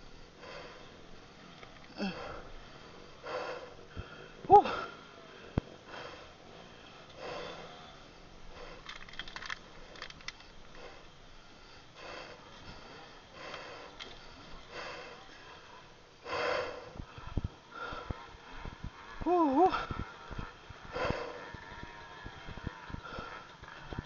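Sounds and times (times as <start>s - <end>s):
person breathing hard: 0.0s - 21.6s, 23.0s - 24.0s.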